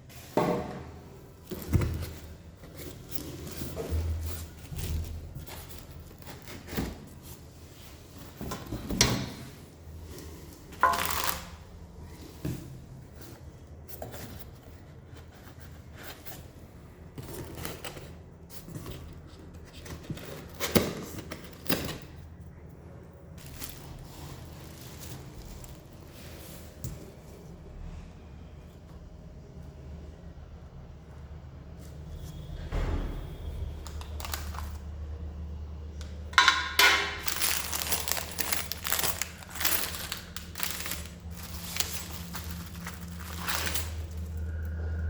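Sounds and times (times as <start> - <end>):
low steady hum: 0.0 - 45.0
unpacking handling noises: 1.3 - 22.3, 23.3 - 27.6, 33.7 - 45.0.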